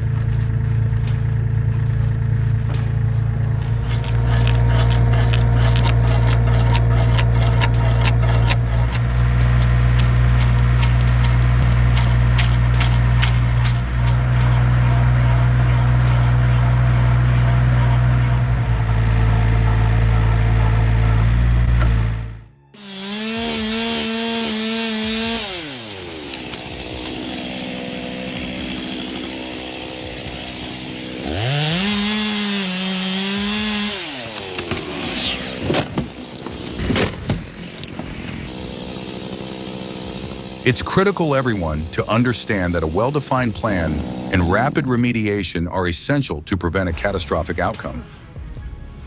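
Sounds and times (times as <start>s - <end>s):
loud low machine drone: 0.0s - 35.8s, 38.5s - 45.3s
chainsaw revving: 3.6s - 37.0s, 38.4s - 45.3s.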